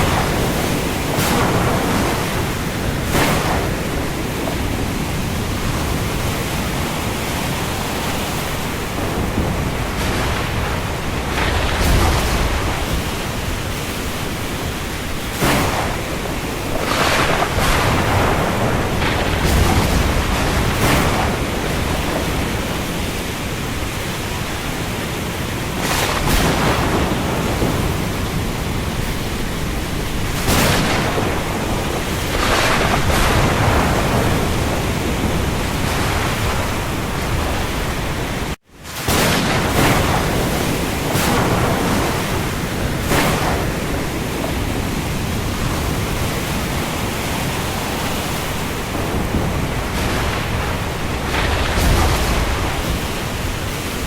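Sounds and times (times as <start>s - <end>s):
waves surging: 0.0s - 54.0s.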